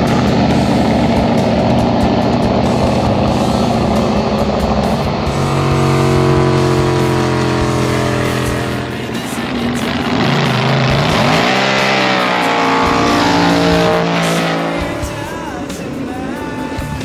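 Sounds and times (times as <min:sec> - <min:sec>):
boat engine revving: 0:00.0 - 0:17.0.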